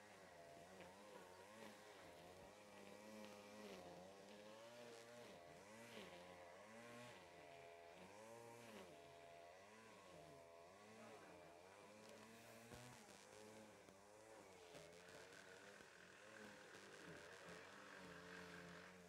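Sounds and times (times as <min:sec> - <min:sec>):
faint grass cutter engine revving: 0:00.0 - 0:19.0.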